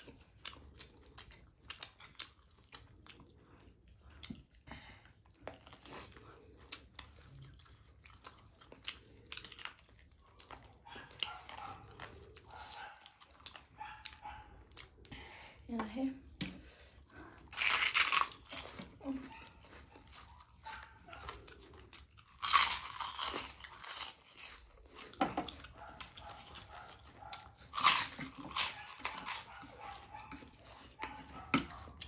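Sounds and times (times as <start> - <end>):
crunchy chewing: 0.0 - 15.2, 16.6 - 32.0.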